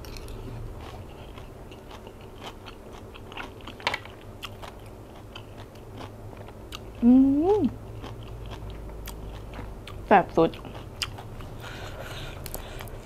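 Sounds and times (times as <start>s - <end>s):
crunchy chewing clicks: 0.0s - 11.8s
person chewing wet food: 0.0s - 13.0s.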